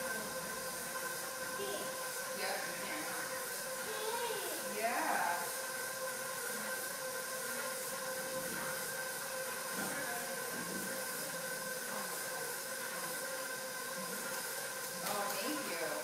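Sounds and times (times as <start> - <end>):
hiss: 0.0 - 16.0
mechanical hum with high whine: 0.0 - 16.0.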